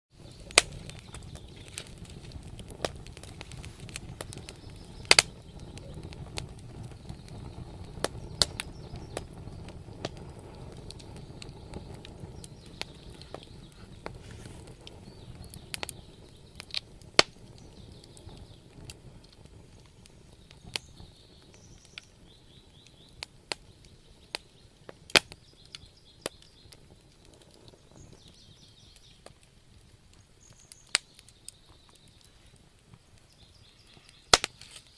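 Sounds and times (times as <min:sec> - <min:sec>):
low rumble of flames: 0:00.1 - 0:34.9
wood fire crackling: 0:00.1 - 0:34.9.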